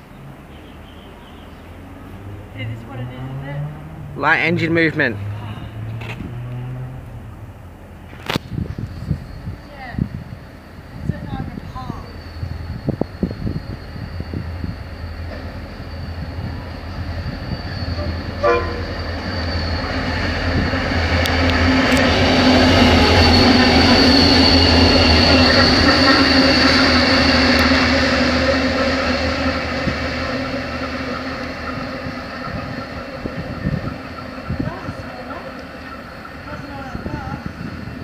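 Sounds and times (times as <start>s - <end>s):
locomotive engines rumbling: 0.0s - 38.0s.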